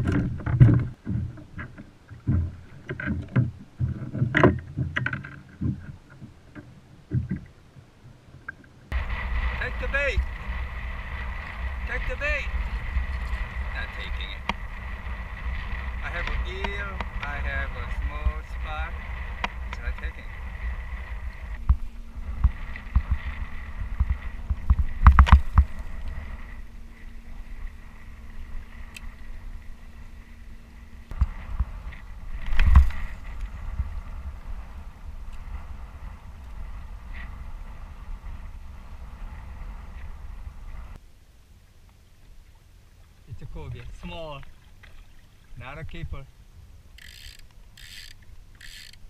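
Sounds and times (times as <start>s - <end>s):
low steady rumble: 8.7s - 49.0s.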